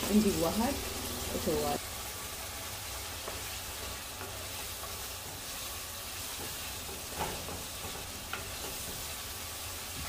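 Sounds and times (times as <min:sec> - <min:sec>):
stew sizzling in a pot: 0:00.0 - 0:10.0.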